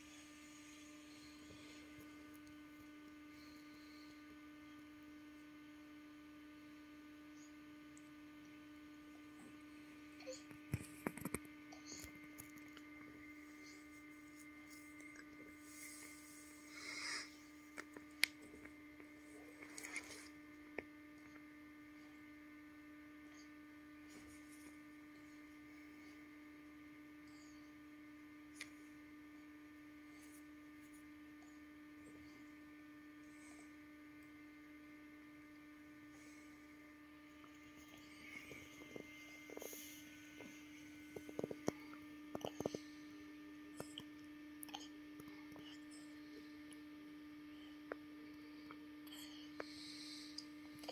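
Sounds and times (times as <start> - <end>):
steady hum: 0.0 - 50.9.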